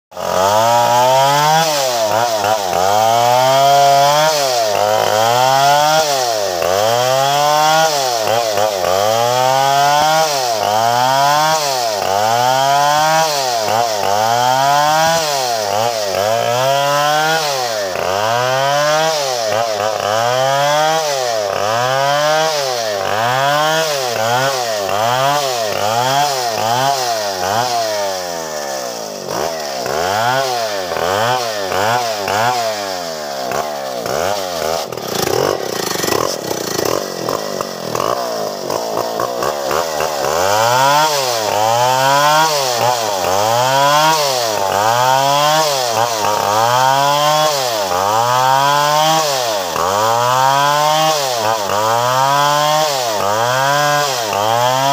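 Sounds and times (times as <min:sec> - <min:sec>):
chainsaw cutting through wood: 0:00.1 - 0:54.9.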